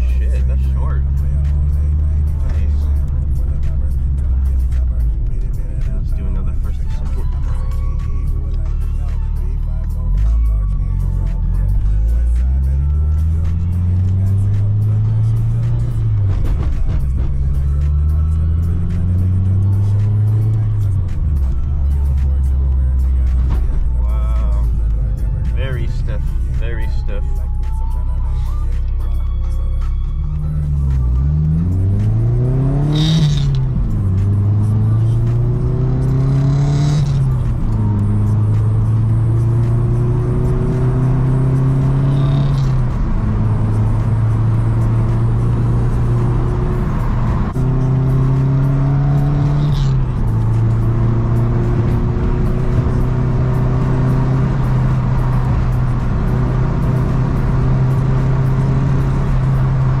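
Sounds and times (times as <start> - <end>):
car engine accelerating through gears: 0.0 - 27.4, 29.6 - 60.0.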